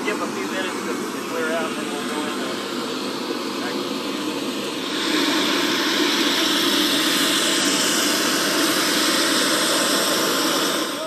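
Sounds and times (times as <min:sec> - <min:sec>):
helicopter turbine and rotor noise: 0:00.0 - 0:11.0.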